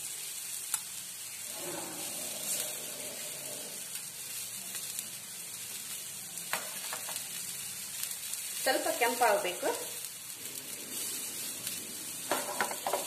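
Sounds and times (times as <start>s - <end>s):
omelette sizzling in oil: 0.0s - 13.0s.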